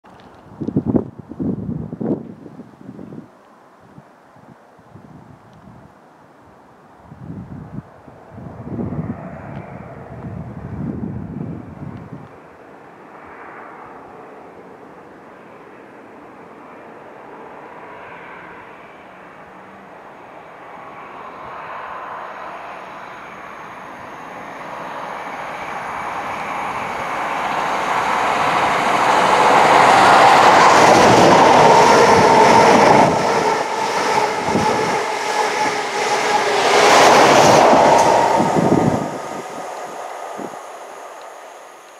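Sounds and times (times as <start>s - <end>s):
diesel train passing: 8.3s - 41.9s.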